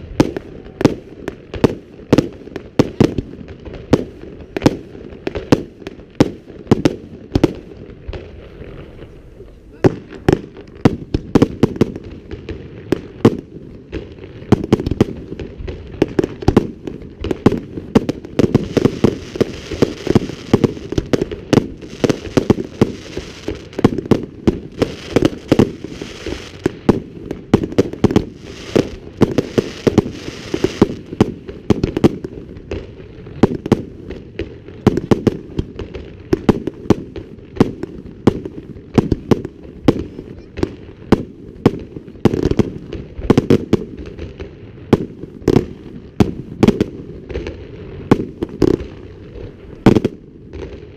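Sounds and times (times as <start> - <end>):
fireworks bursting: 0.0 - 50.9
fireworks crackling: 0.0 - 50.9.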